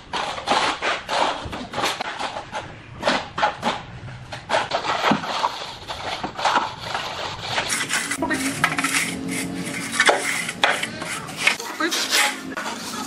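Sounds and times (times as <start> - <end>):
trowel scraping sand on floor: 0.0 - 13.0.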